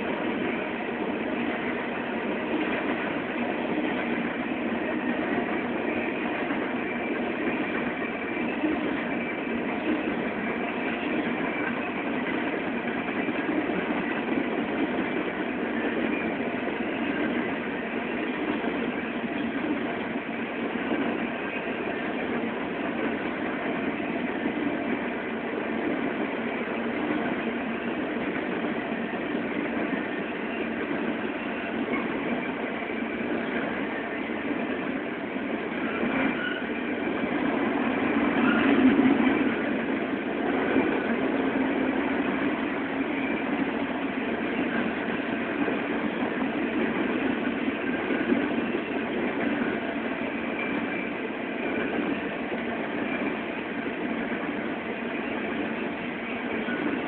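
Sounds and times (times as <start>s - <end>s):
train wheels rolling on track: 0.0s - 57.0s.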